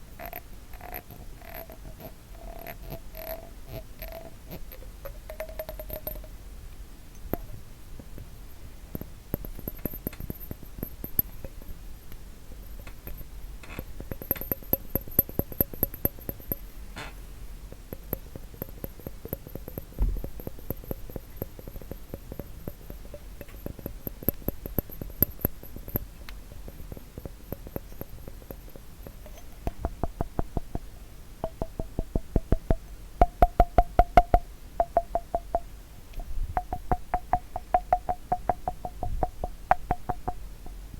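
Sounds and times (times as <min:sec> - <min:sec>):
tapping on glass bottle: 0:00.2 - 0:06.4, 0:08.9 - 0:11.8, 0:12.6 - 0:16.7, 0:17.7 - 0:40.8.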